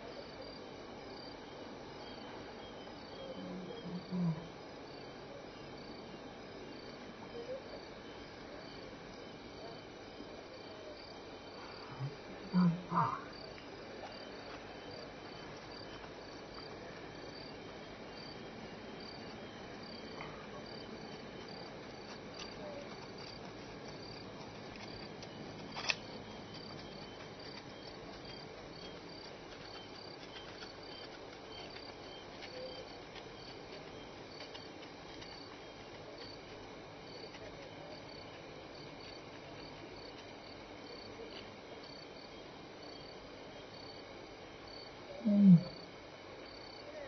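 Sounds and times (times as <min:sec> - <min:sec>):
crickets chirping: 0:00.0 - 0:47.0
low background hiss: 0:00.0 - 0:47.0.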